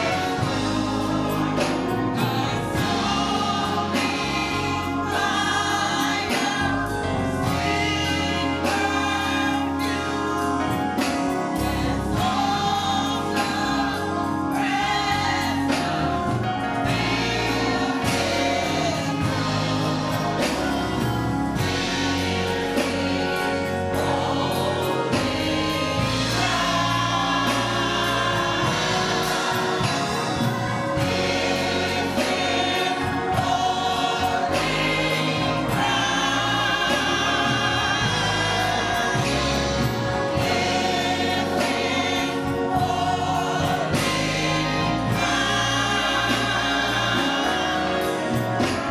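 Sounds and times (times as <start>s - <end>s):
choir singing gospel: 0.0s - 48.9s
instrumental accompaniment with beat: 0.0s - 48.9s.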